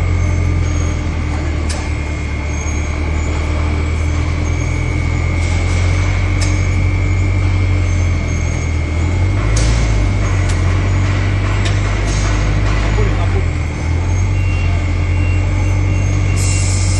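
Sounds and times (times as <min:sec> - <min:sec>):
industrial machinery drone: 0:00.0 - 0:16.9.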